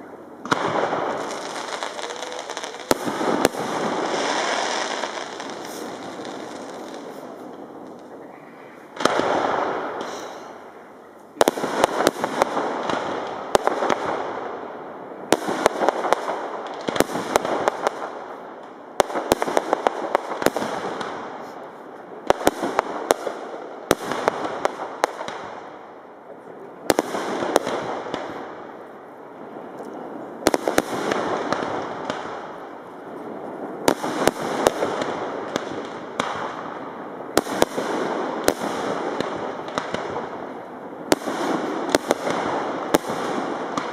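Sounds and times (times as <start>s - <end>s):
fireworks bangs: 0.0s - 43.9s
fireworks crackling hiss: 0.0s - 43.9s.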